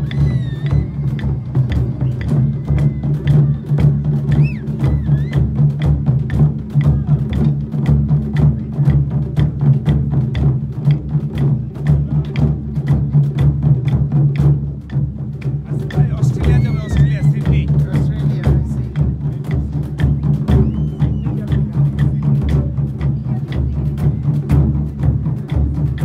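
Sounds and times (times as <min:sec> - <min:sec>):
fast percussion beat: 0:00.0 - 0:26.0.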